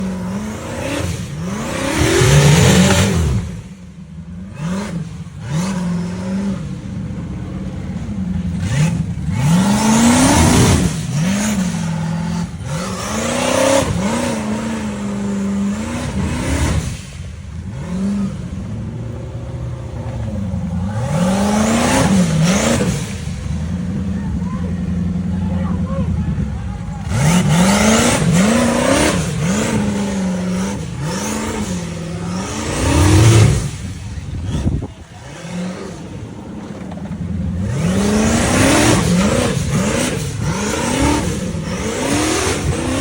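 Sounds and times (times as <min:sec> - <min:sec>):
buggy engine revving: 0:00.0 - 0:43.0.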